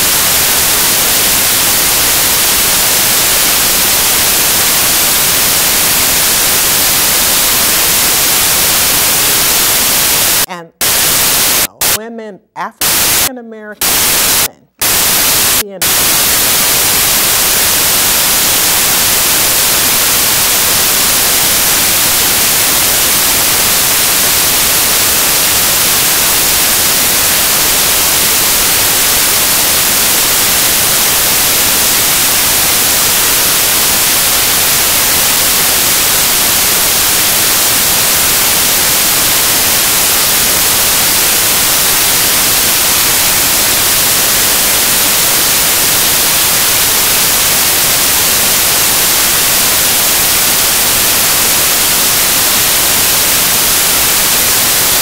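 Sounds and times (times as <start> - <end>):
static hiss: 0.0 - 12.0, 12.8 - 55.0.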